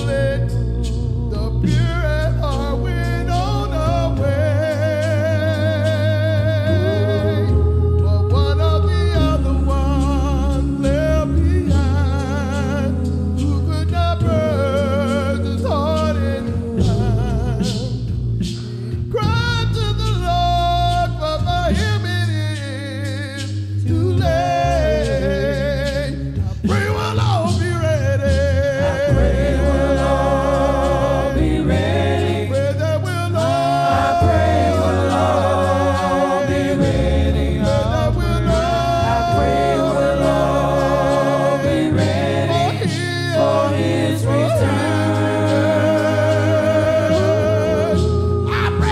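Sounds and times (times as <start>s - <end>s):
a cappella gospel singing: 0.0s - 48.9s.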